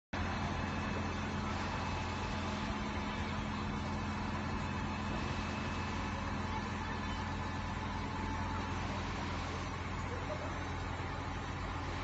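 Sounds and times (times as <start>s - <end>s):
diesel engine running: 0.2s - 12.0s.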